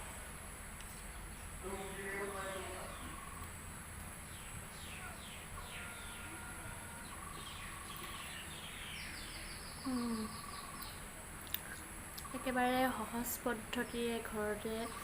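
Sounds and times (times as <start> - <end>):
low steady hum: 0.0 - 15.0
birds chirping: 0.8 - 15.0.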